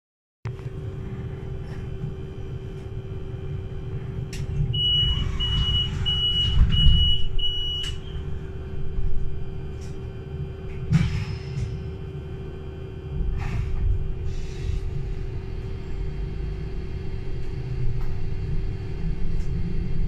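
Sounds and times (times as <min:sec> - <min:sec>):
electric bus hum and rumble: 0:00.5 - 0:20.0.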